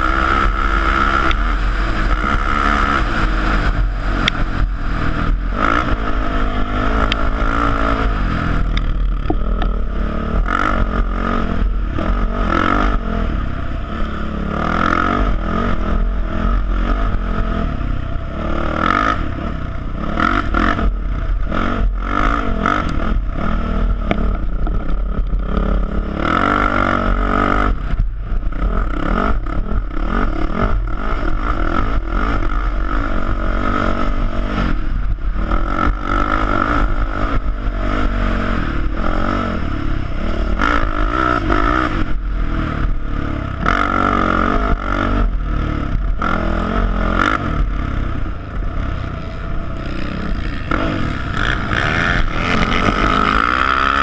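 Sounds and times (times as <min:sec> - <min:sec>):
atv engine revving: 0:00.0 - 0:54.0
wind rumble on microphone: 0:00.0 - 0:54.0.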